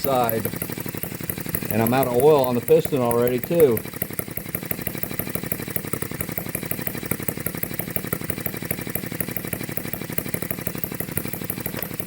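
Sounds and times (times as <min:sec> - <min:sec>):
model engine running: 0:00.0 - 0:12.0.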